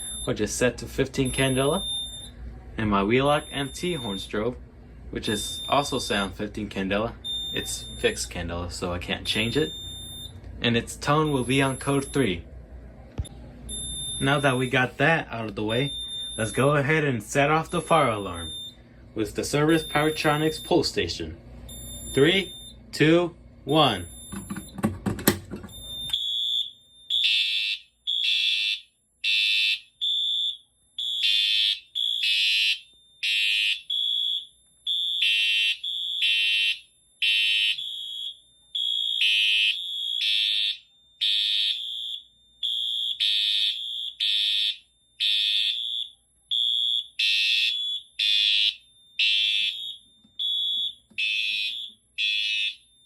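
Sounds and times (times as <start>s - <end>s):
fire alarm horn blasts: 0.0s - 2.4s, 3.2s - 4.4s, 7.2s - 8.3s, 9.3s - 12.4s, 13.7s - 14.9s, 15.7s - 18.9s, 19.5s - 21.0s, 21.7s - 24.4s, 25.7s - 53.0s.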